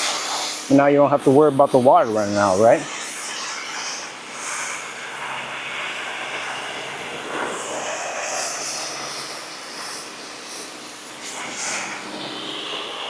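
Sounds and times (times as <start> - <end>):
pressure washer motor humming: 0.0 - 13.0
water jet spraying against siding: 0.0 - 13.0.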